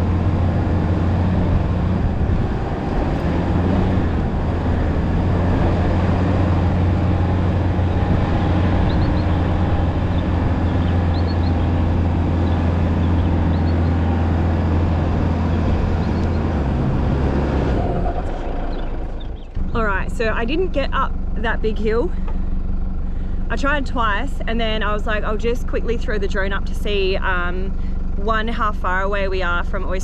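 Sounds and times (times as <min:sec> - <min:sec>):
vehicle engine running hard: 0:00.0 - 0:30.0.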